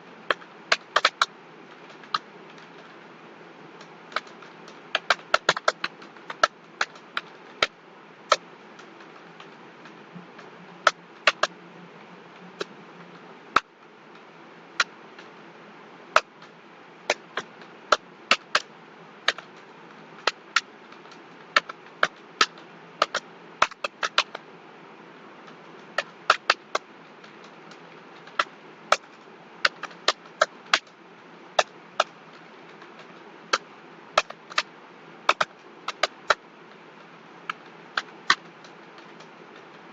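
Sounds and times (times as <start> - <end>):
steady low hiss: 0.0 - 39.9.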